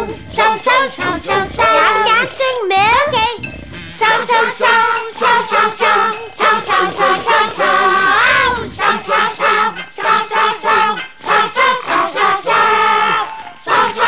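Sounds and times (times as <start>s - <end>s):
lullaby sung in puppet voices: 0.0s - 14.0s
music: 0.0s - 14.0s.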